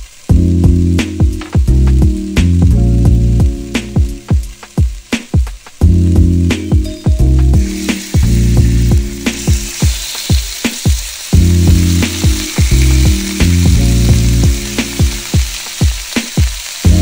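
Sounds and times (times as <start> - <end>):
chicken sizzling in hot oil: 0.0 - 17.0
background music: 0.3 - 17.0.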